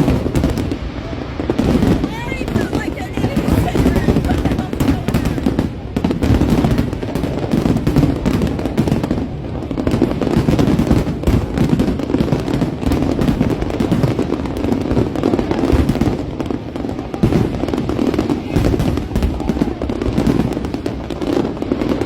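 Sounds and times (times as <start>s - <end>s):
fireworks bursts and booms: 0.0s - 22.0s.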